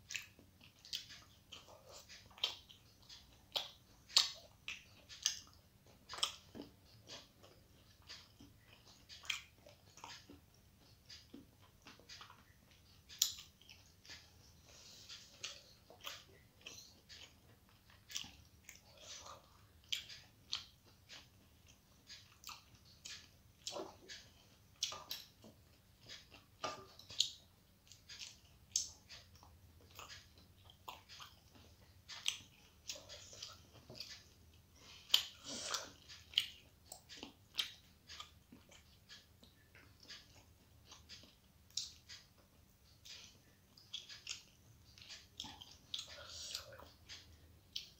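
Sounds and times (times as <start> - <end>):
chewing food: 0.0 - 47.9.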